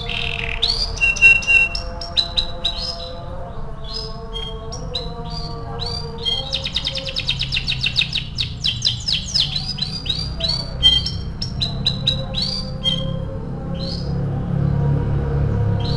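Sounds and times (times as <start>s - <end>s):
canary singing: 0.0s - 15.9s.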